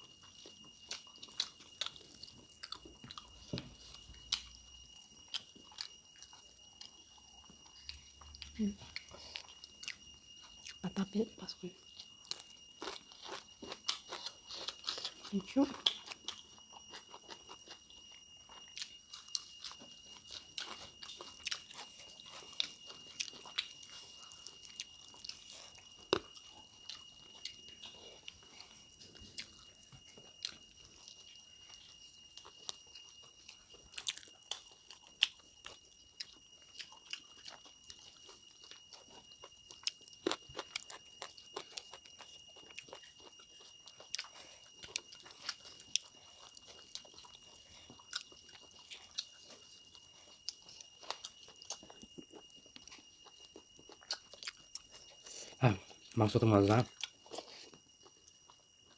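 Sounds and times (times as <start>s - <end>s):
chewing and biting meat: 0.0s - 10.8s, 11.9s - 56.2s, 56.8s - 58.9s
faint high-pitched whine: 0.0s - 58.9s.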